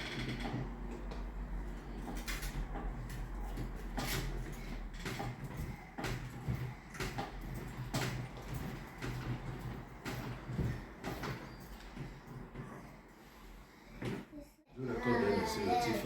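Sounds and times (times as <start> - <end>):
knocks and clatters: 0.0 - 13.1.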